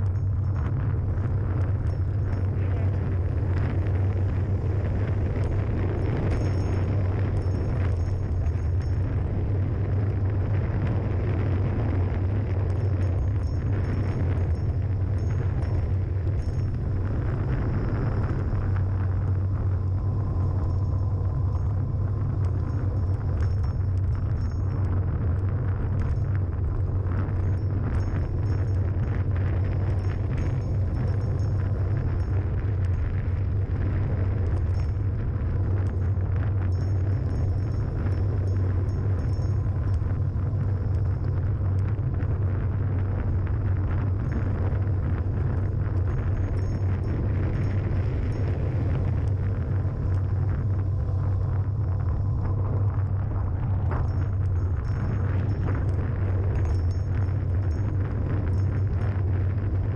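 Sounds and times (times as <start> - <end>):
road rumble: 0.0 - 59.9
wind buffeting microphone: 0.0 - 59.9.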